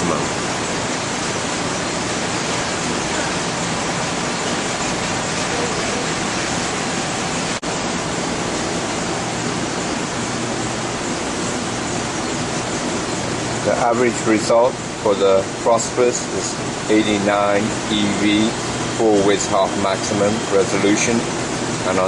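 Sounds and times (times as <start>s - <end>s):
cooling fans rushing: 0.0s - 22.0s.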